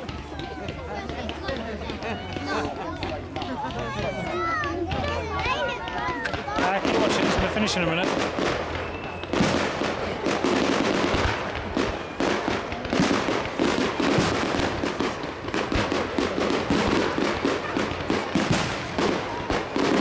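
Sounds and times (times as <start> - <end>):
fireworks bursting with bangs and crackles: 0.0 - 20.0.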